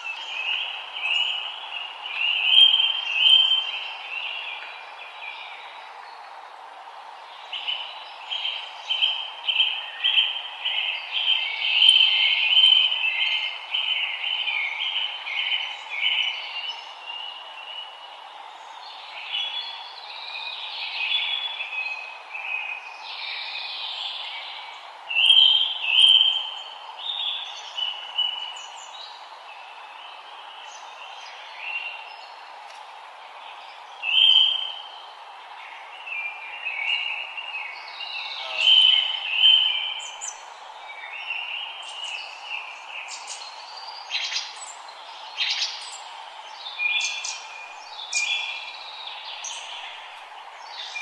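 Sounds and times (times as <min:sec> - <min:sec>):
low background hiss: 0:00.0 - 0:51.0
songbirds chirping: 0:00.0 - 0:51.0.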